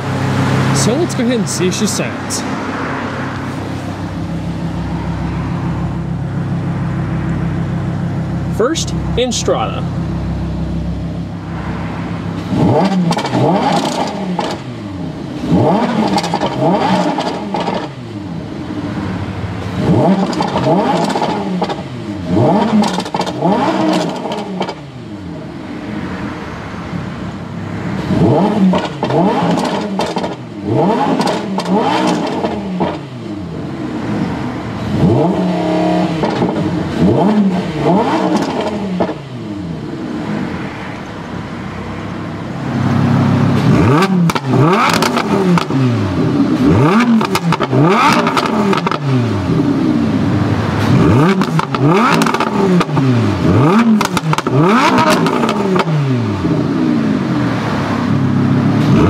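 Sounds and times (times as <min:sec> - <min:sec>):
sports car engine revving: 0:00.0 - 0:59.0.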